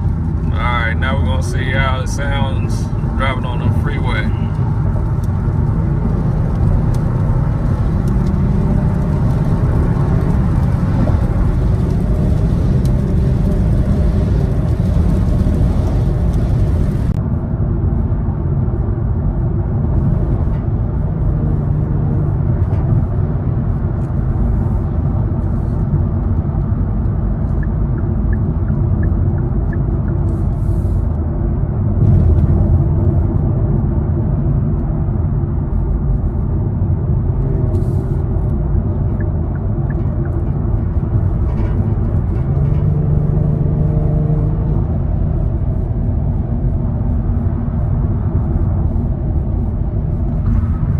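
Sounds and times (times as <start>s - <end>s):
loud low exhaust drone: 0.0s - 50.9s.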